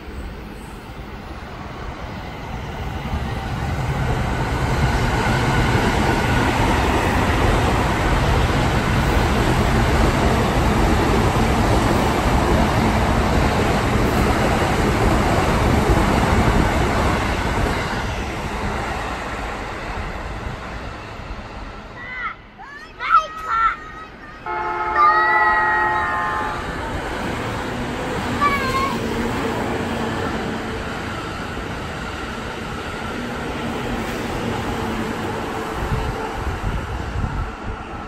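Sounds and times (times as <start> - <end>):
train wheels rushing on rails: 0.0 - 38.0.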